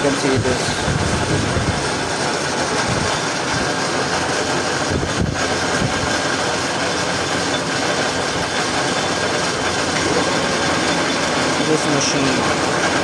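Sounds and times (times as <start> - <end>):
metal lathe running: 0.0 - 13.0.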